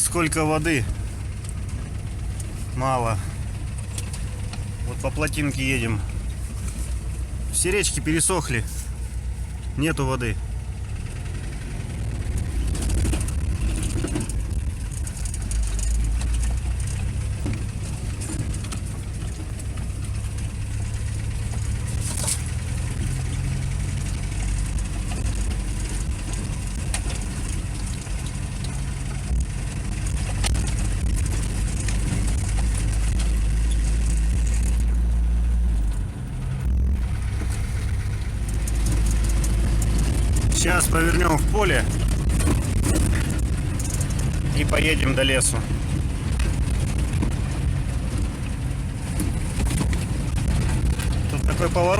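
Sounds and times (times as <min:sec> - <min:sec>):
light truck engine drone: 0:00.0 - 0:51.9
road and body rumble: 0:00.0 - 0:51.9.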